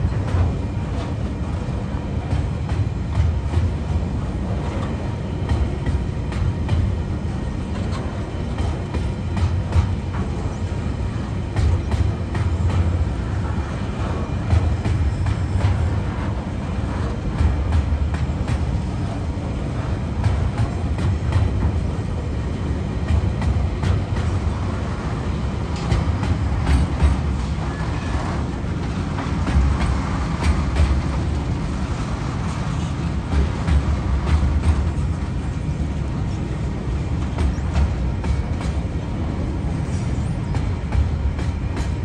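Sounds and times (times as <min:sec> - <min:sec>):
freight train rolling past: 0:00.0 - 0:42.0
wheels clicking on rails: 0:00.0 - 0:42.0.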